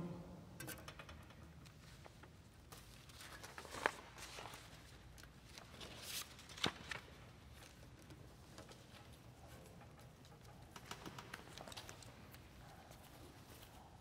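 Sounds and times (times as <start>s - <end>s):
faint shuffling and rustling: 1.7s - 14.0s.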